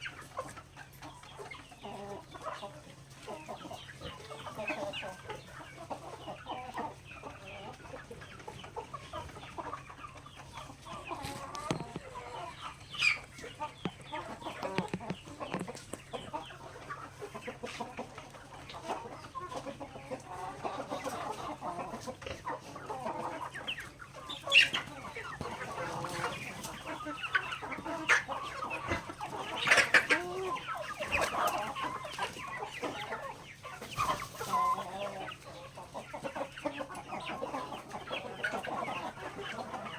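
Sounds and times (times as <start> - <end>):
chicken calls: 0.0 - 39.9
chickens clucking: 0.0 - 39.9
beaks pecking at grain: 0.1 - 39.9.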